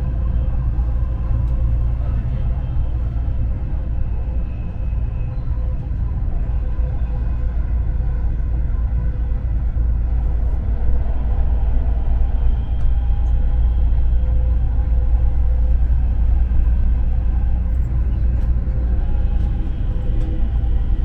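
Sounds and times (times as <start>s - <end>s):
faint whining tones: 0.0s - 21.0s
train rumbling on track: 0.0s - 21.0s.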